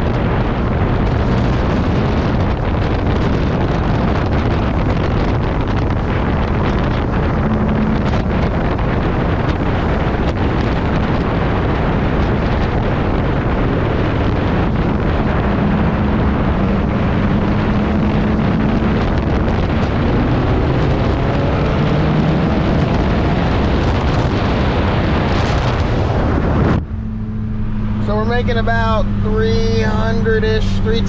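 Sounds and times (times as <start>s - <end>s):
car engine accelerating: 0.0s - 31.0s
wind buffeting on microphone: 0.0s - 31.0s.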